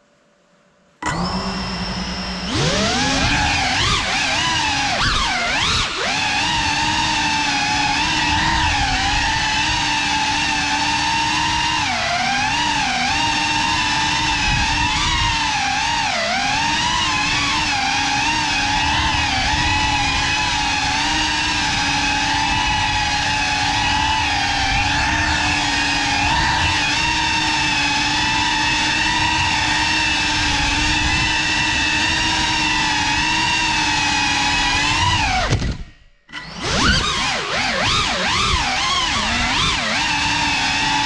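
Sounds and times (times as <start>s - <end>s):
drone propellers whining: 1.0s - 41.0s.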